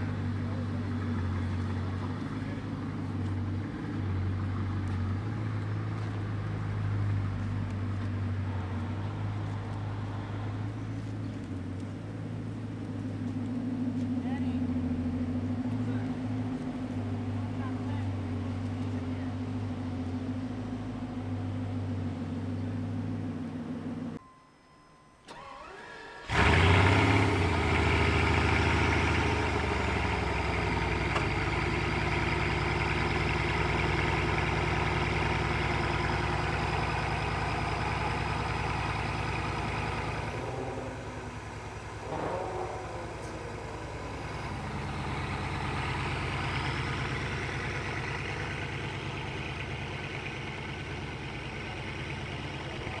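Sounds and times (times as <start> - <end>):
car engine starting and idling: 0.0 - 24.2, 25.0 - 53.0.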